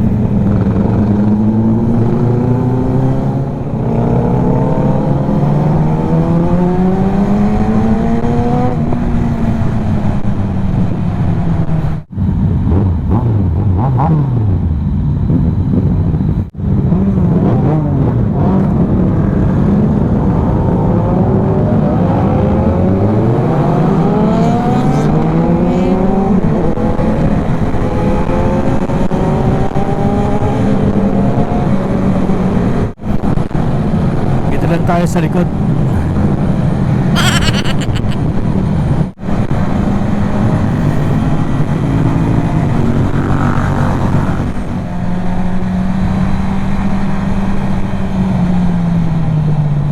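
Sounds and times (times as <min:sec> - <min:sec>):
motorcycle engine accelerating: 0:00.0 - 0:34.6, 0:35.5 - 0:49.9.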